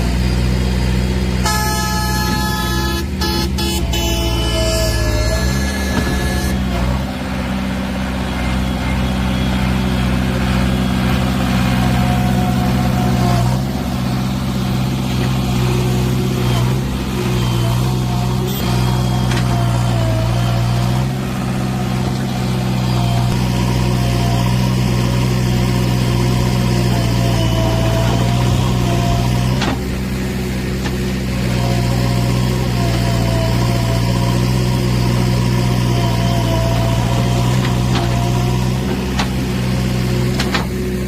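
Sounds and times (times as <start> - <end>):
diesel engine running steadily: 0.0 - 41.0.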